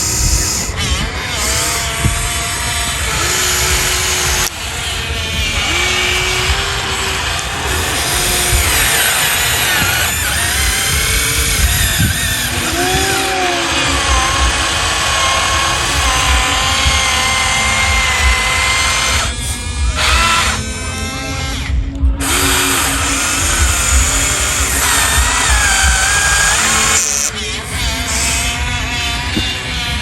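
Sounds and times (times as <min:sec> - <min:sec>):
small electric motors whining: 0:00.0 - 0:30.0.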